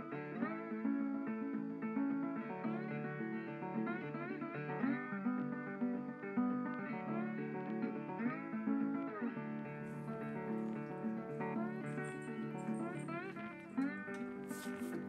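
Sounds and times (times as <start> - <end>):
acoustic guitar plucked and strummed: 0.0 - 15.0.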